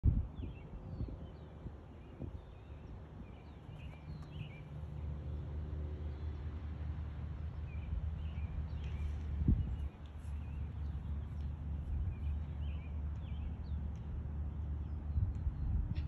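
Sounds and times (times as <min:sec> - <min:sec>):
small birds chirping: 0:00.4 - 0:05.2, 0:07.5 - 0:16.0.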